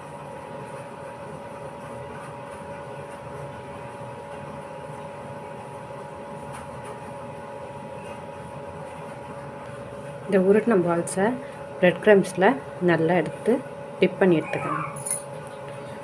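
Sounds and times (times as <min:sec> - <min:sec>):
faint machine whine: 0:00.0 - 0:16.0.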